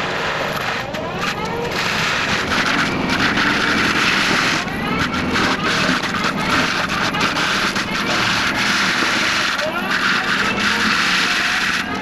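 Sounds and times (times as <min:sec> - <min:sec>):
forestry mulcher grinding brush: 0:00.5 - 0:12.0
rapid irregular knocks: 0:01.4 - 0:12.0.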